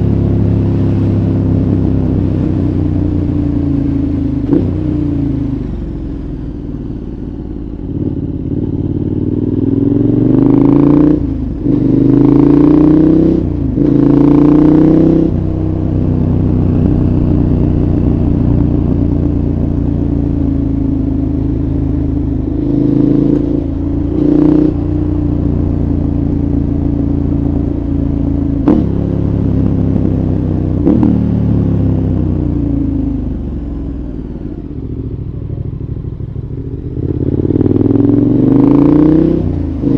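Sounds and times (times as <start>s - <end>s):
motorcycle engine accelerating: 0.0s - 39.9s
motorcycle engine revving: 0.0s - 39.9s.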